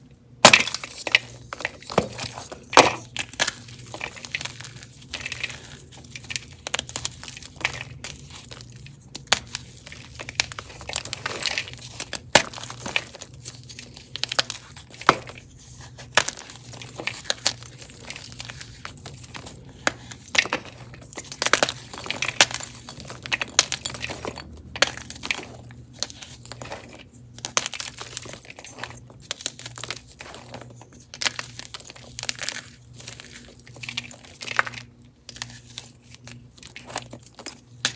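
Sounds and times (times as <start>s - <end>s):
chalk crunching and crackling: 0.4s - 37.9s.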